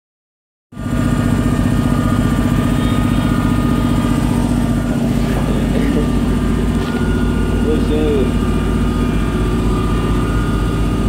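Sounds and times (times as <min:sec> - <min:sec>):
motor humming steadily: 0:00.8 - 0:11.0.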